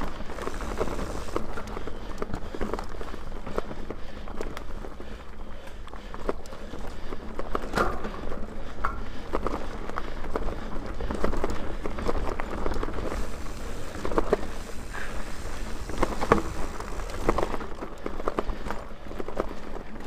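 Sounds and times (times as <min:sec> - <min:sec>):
bike clicking and rattling: 0:00.0 - 0:20.0
tyres rumbling on dirt trail: 0:00.0 - 0:20.0.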